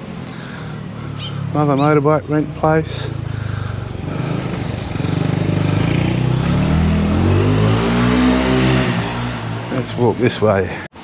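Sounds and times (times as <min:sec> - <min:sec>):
vehicle engine passing: 0:00.1 - 0:10.5.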